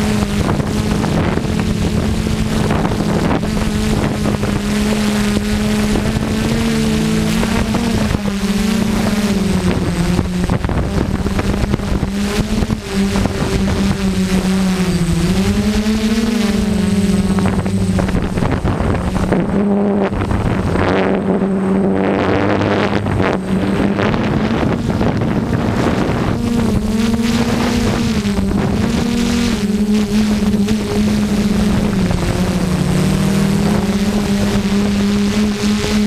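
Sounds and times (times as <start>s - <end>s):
drone motors humming: 0.0s - 36.0s
wind on microphone: 0.0s - 36.0s.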